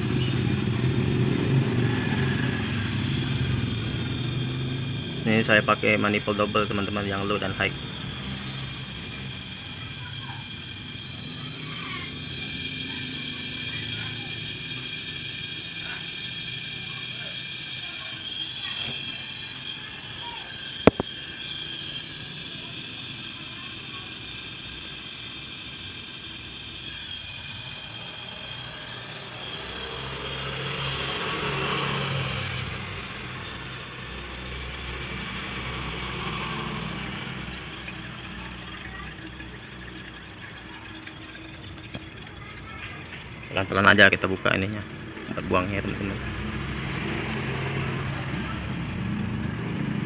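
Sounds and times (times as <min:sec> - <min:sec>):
gas hissing from hoses: 0:00.0 - 0:50.0
thin high tones: 0:00.0 - 0:50.0.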